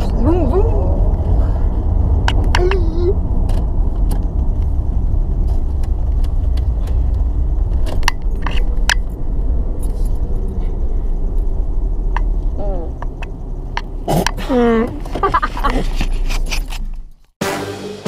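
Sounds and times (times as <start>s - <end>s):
car engine and road rumble: 0.0s - 17.4s.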